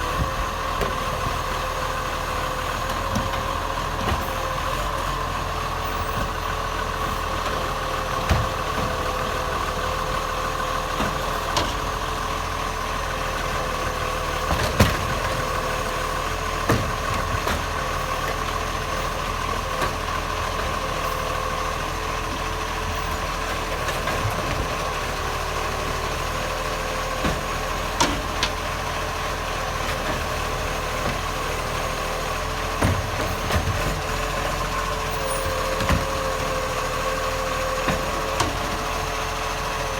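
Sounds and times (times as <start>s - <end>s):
garbage truck diesel engine idling: 0.0s - 39.9s.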